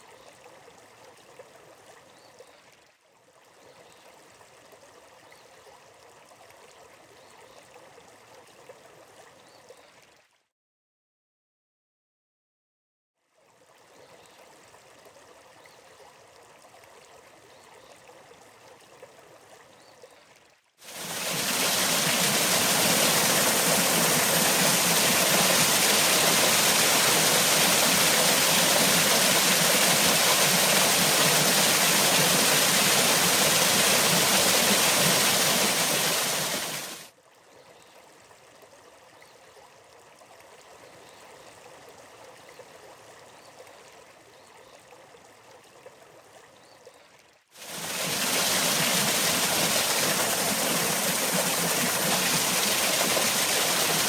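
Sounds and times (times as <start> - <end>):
stream water flowing: 0.0 - 10.2, 13.4 - 54.0.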